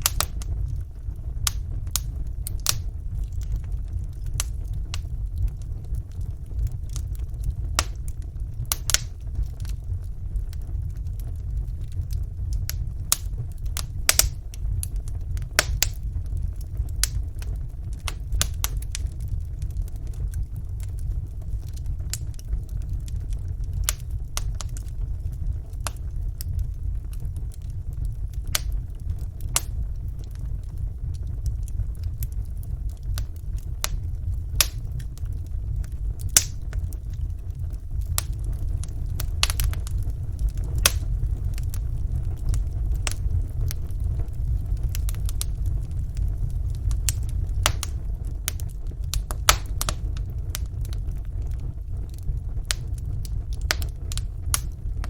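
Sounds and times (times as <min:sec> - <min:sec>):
fire flames rumbling: 0:00.0 - 0:55.0
logs crackling and popping: 0:00.0 - 0:55.0.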